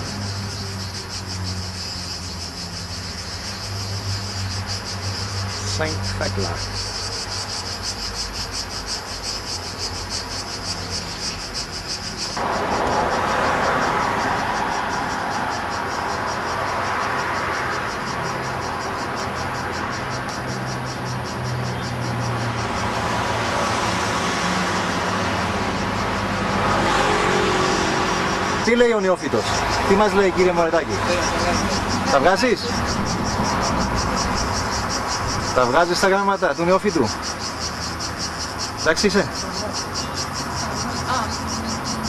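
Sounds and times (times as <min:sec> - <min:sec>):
cicadas buzzing: 0:00.0 - 0:42.0
road traffic passing: 0:00.0 - 0:42.0.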